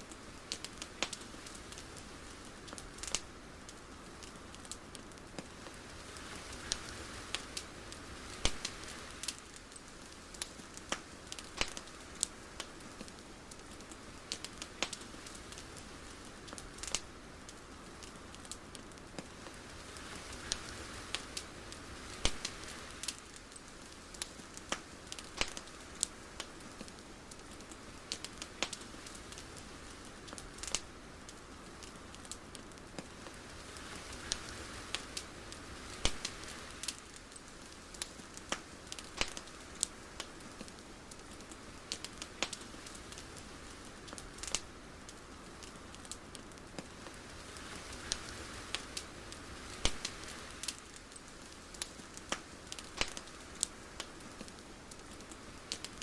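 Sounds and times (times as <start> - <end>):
crackles and clicks: 0.0 - 56.0
soft steady hiss: 0.0 - 56.0.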